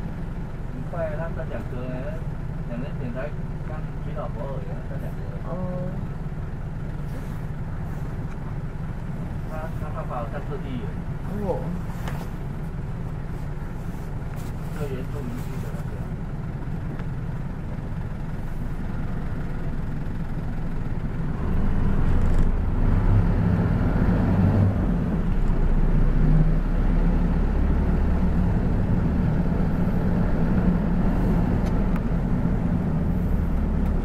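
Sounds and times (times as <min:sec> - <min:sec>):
bus engine: 0:00.0 - 0:34.0
road noise: 0:00.0 - 0:34.0.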